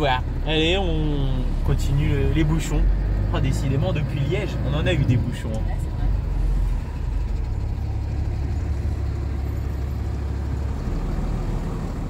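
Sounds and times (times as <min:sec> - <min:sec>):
truck engine drone from cab: 0:00.0 - 0:12.0.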